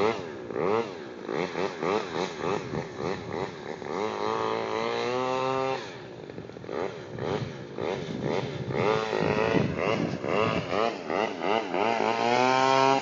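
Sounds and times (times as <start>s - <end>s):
model boat engine revving: 0.0s - 13.0s.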